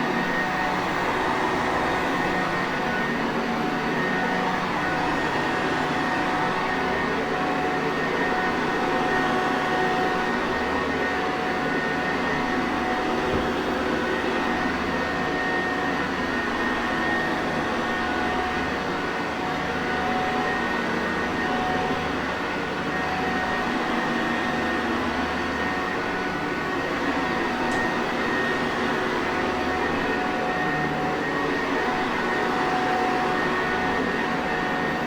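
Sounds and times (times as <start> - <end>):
upright vacuum cleaner running: 0.0 - 35.0.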